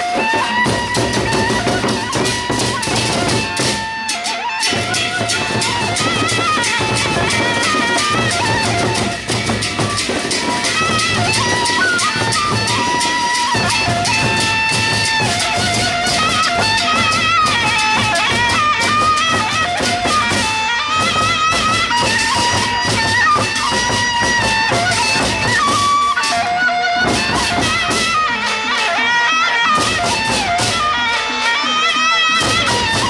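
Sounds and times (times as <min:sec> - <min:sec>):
drums and cymbals beating: 0:00.0 - 0:33.0
wind instrument melody: 0:00.0 - 0:33.0.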